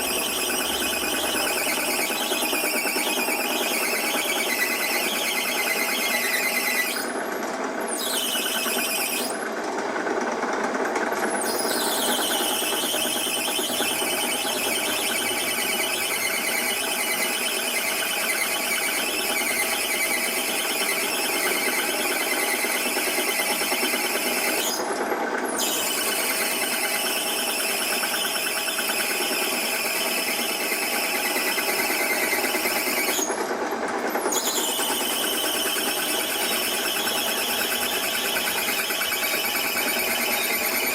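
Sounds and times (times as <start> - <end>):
machine tool cutting metal: 0.0 - 9.5, 11.2 - 40.9.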